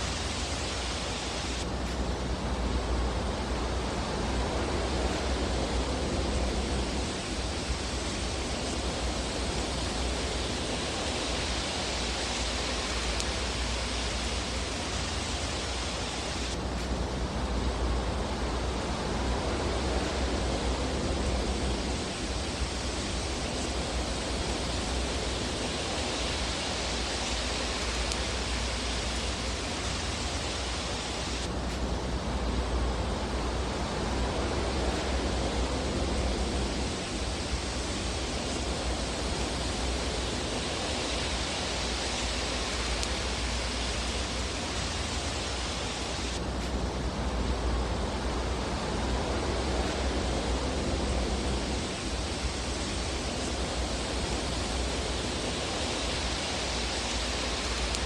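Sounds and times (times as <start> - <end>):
fire burning in a fireplace: 0.0 - 58.0.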